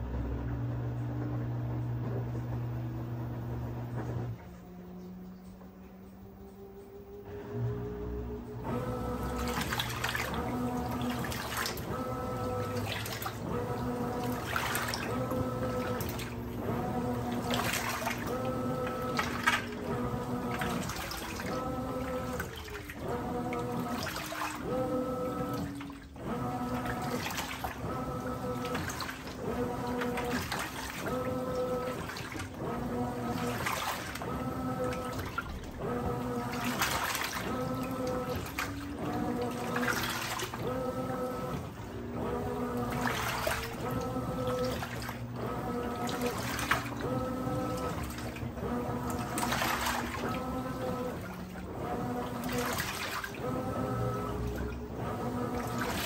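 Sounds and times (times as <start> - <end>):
washing machine motor humming: 0.0 - 56.0
water churning in drum: 8.6 - 56.0.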